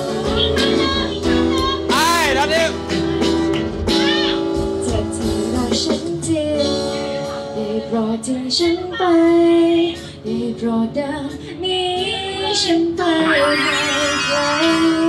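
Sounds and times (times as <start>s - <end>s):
woman singing into a microphone: 0.0s - 2.1s, 3.9s - 15.0s.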